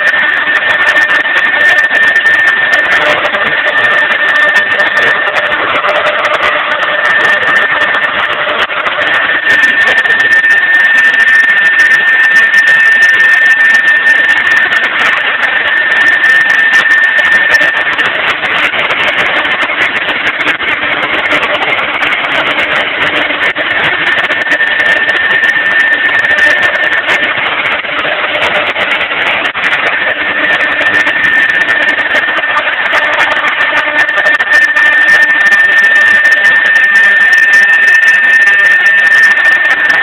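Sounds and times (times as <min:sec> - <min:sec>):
machining noise: 0:00.0 - 0:40.0
router spindle whine: 0:00.0 - 0:40.0.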